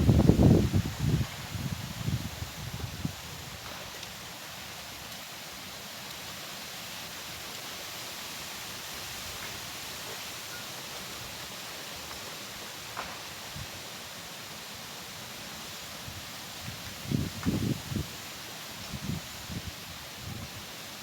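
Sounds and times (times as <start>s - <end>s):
wind in leaves: 0.0s - 21.0s.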